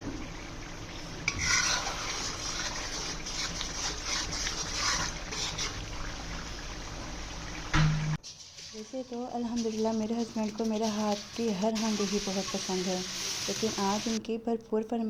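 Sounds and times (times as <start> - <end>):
trickling hissing liquid: 0.1 - 14.2.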